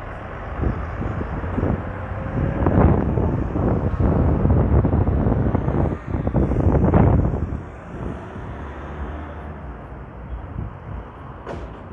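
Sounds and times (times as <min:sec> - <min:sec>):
traffic on brick street: 0:00.0 - 0:11.9
van passing close by: 0:00.0 - 0:11.9
wind buffeting microphone: 0:00.0 - 0:11.9.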